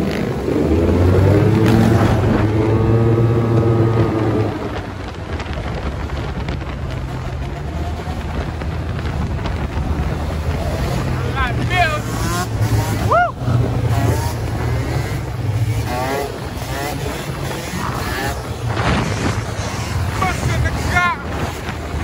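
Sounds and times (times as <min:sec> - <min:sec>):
quad engine running hard: 0:00.0 - 0:22.0
road noise: 0:00.0 - 0:22.0
wind rush: 0:00.0 - 0:22.0.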